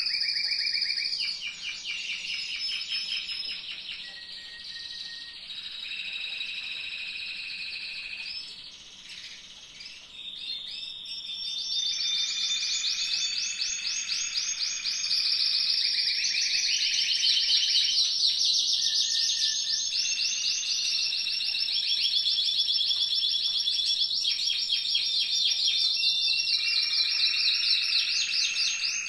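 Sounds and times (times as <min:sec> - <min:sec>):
canaries singing trills: 0:00.0 - 0:29.0.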